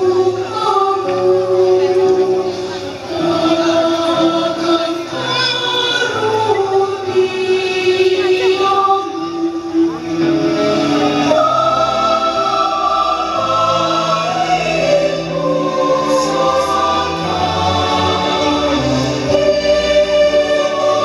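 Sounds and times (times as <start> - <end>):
group of voices singing: 0.0 - 21.0
music: 0.0 - 21.0.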